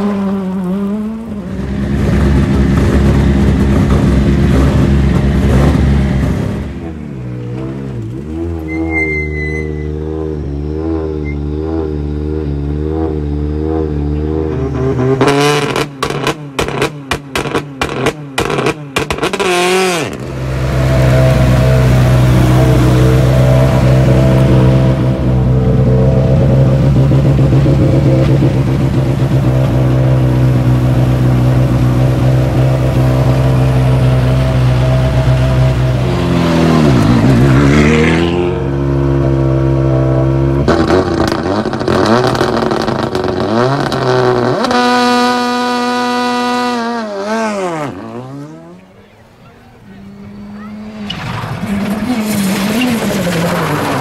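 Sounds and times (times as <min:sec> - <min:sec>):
rally car engine revving and idling: 0:00.0 - 0:54.0
car engine idling with wavering pitch: 0:01.1 - 0:37.9, 0:38.8 - 0:53.1.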